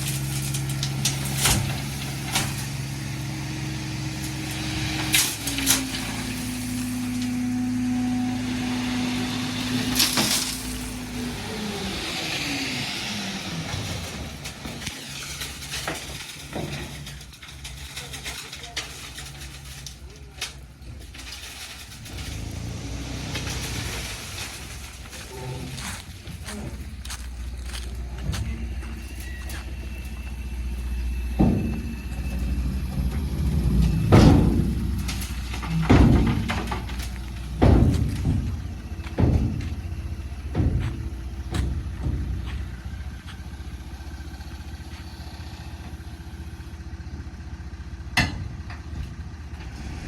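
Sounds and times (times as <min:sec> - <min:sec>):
heavy clunk: 0:00.0 - 0:08.6, 0:13.6 - 0:45.0, 0:48.1 - 0:50.0
heavy diesel engine revving: 0:00.0 - 0:15.8, 0:21.7 - 0:48.2, 0:48.9 - 0:50.0.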